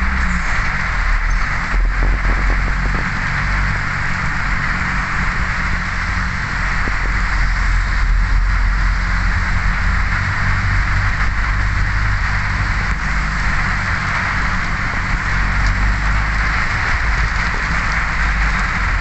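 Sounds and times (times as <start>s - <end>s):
heavy rain on vehicle roof: 0.0s - 19.0s
low vehicle rumble: 0.0s - 19.0s.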